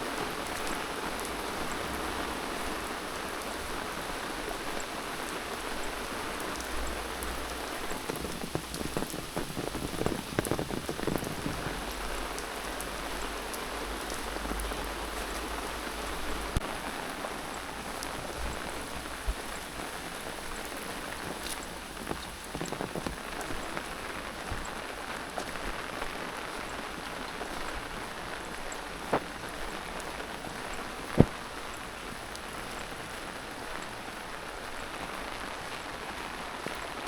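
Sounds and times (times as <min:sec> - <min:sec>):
rain pattering on surfaces: 0:00.0 - 0:37.0.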